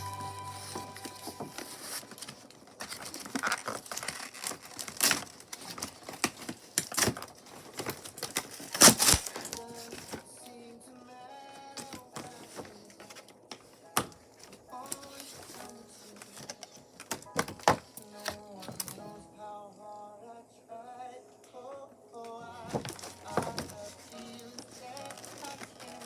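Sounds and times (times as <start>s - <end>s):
packaging crinkling and rustling: 0.0s - 10.5s, 11.6s - 19.1s, 22.5s - 26.0s.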